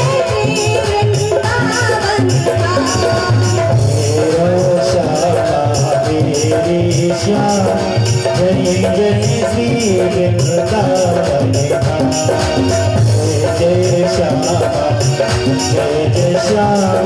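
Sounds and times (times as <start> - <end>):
devotional chant singing: 0.0 - 17.0
jingling hand percussion: 0.0 - 17.0
steady drum beat: 0.0 - 17.0.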